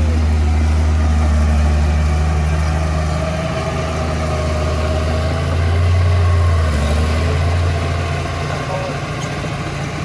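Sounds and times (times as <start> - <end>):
heavy diesel engine humming: 0.0 - 10.0.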